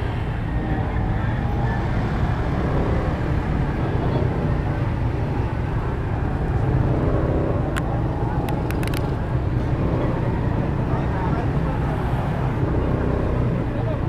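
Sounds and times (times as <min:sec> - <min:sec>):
motorcycle engines rumbling: 0:00.0 - 0:14.0.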